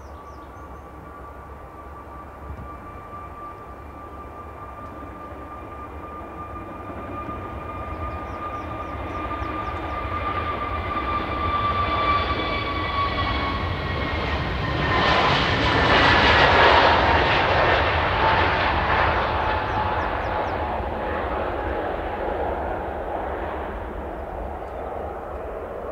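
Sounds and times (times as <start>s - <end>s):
jet engine whine: 0.0s - 25.9s.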